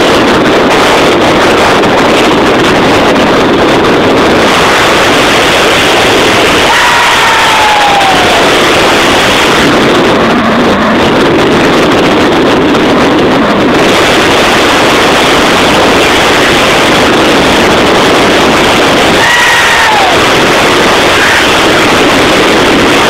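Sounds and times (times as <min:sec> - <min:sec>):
car engine noise: 0:00.0 - 0:23.0
road noise: 0:00.0 - 0:23.0
wind buffeting microphone: 0:00.0 - 0:23.0.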